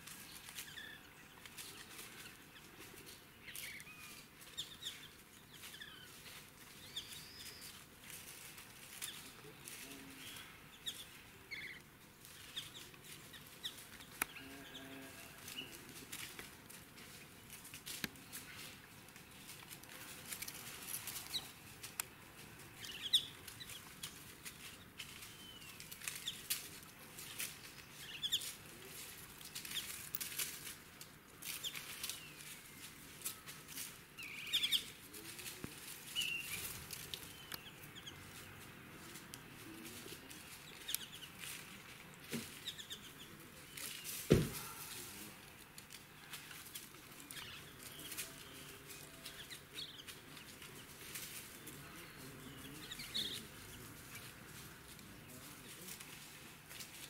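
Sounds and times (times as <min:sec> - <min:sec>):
rustling of dry leaves: 0:00.0 - 0:57.0.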